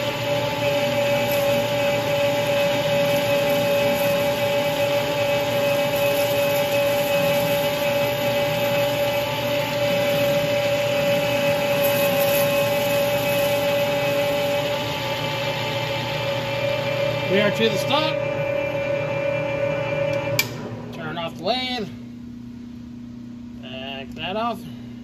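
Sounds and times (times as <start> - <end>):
metal lathe cutting: 0.0 - 21.3
gear whine: 0.0 - 21.8.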